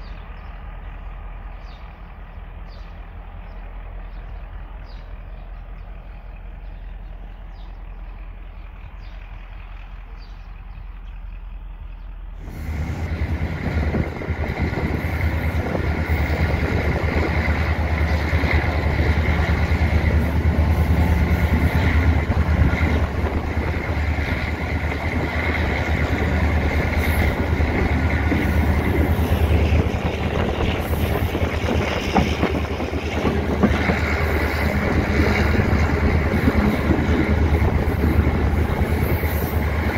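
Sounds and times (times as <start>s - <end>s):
distant low rumble: 0.0s - 39.9s
locomotive engine drone: 0.0s - 39.9s.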